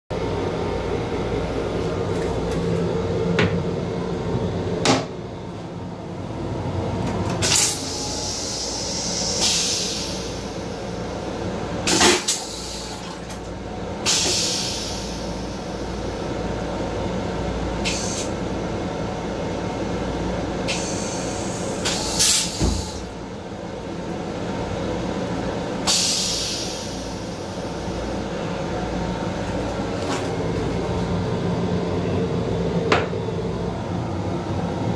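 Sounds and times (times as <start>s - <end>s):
train car hum and rumble: 0.1s - 34.9s.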